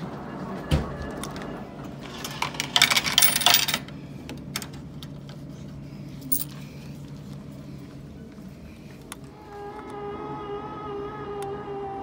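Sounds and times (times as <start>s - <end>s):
vending machine electrical hum: 0.0s - 12.0s.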